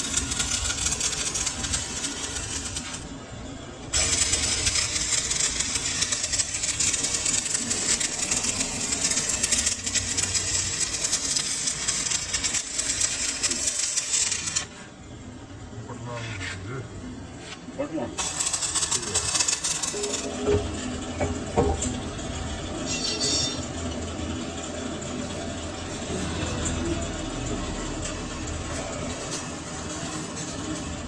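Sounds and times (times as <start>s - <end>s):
lathe cutting metal: 0.0s - 3.2s, 3.9s - 14.8s, 18.2s - 31.0s.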